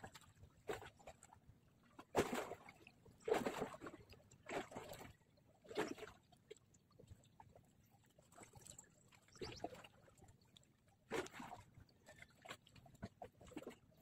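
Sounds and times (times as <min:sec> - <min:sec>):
water lapping against shore: 0:00.0 - 0:14.0.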